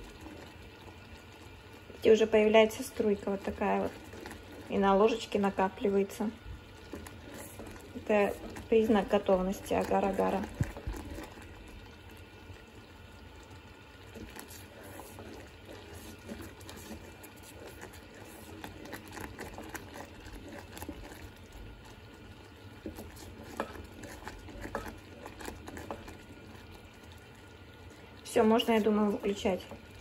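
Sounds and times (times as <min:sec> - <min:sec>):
liquid boiling with small pops: 0:00.0 - 0:30.0
wooden spoon stirring: 0:00.0 - 0:30.0.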